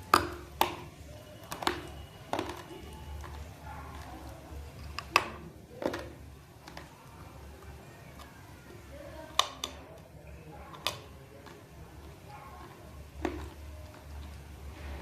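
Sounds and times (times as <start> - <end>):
soft chewing: 0.0 - 15.0
teeth crunching clay: 0.0 - 15.0.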